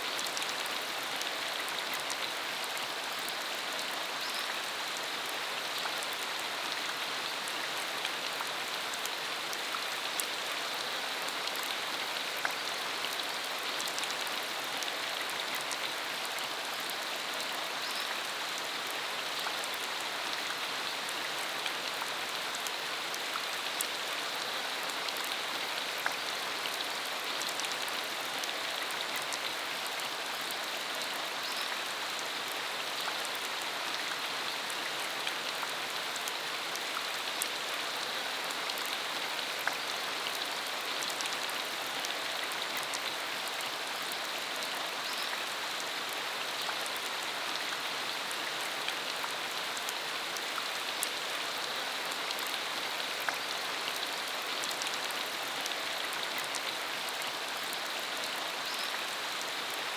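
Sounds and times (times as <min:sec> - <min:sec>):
rain on a dirt road: 0:00.0 - 0:59.9.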